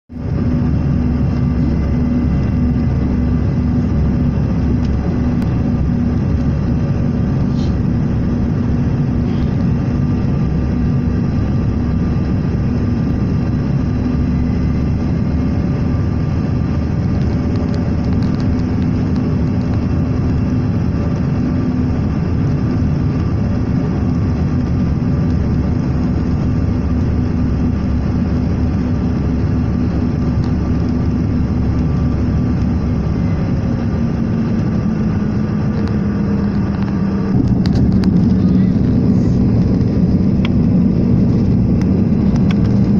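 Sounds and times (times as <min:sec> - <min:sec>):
airliner cabin engine roar: 0:00.1 - 0:42.9.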